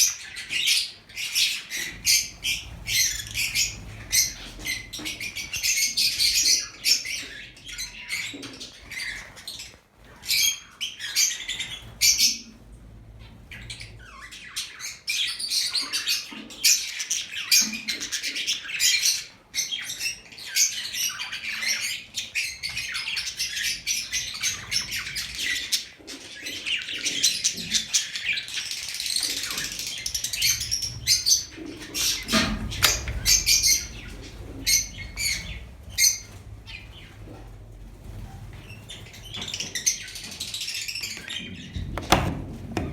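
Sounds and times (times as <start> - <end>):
lovebirds chirping and squawking: 0.0 - 42.9.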